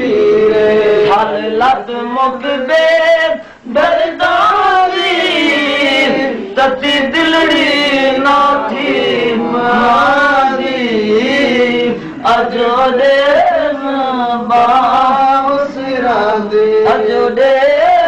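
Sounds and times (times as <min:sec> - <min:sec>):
man singing through a microphone: 0:00.0 - 0:18.0.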